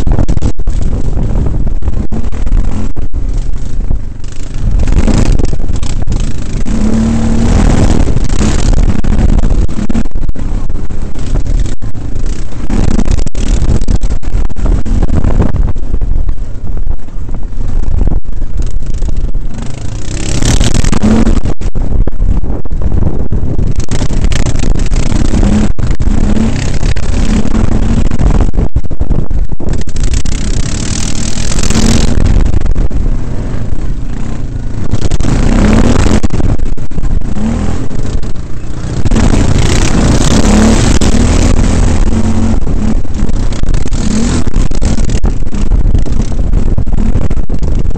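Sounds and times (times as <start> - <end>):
loud low rumble on microphone: 0.0 - 47.9
quad bike engine revving: 0.0 - 47.9.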